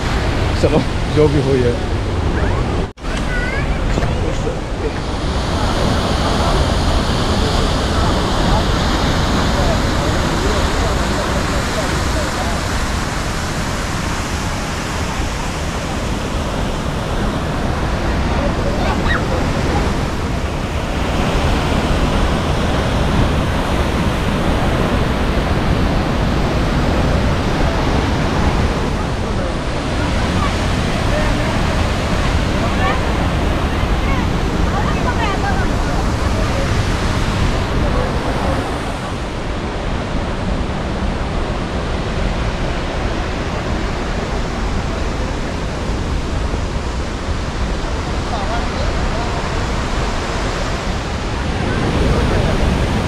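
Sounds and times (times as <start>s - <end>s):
waterfall roaring: 0.0s - 53.0s
wind on microphone: 0.0s - 53.0s.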